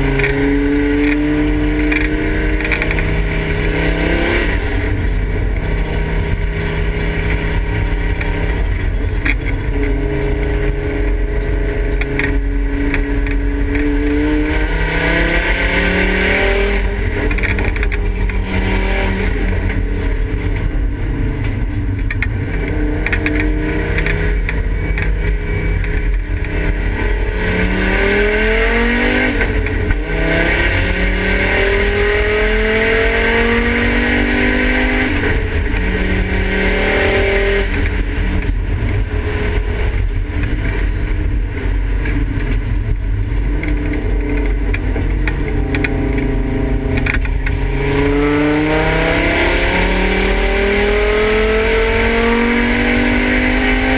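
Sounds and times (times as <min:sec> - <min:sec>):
race car engine at full throttle: 0:00.0 - 0:53.9.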